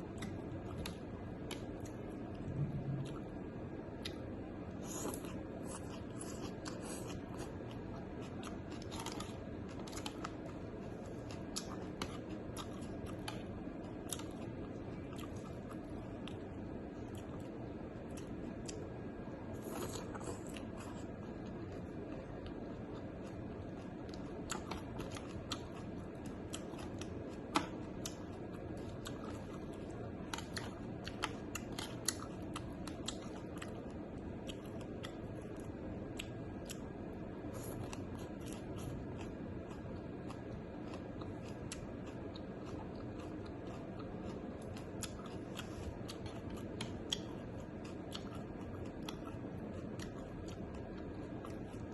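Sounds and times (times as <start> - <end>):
chewing and crunching food: 0.0 - 51.9
steady low background noise: 0.0 - 51.9.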